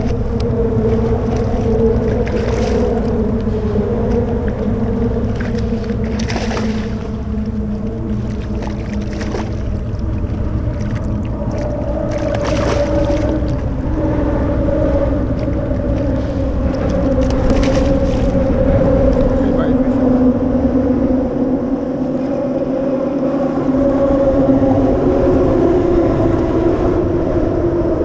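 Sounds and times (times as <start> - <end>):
motor hum: 0.0 - 24.0
wind rumble on microphone: 0.0 - 28.0.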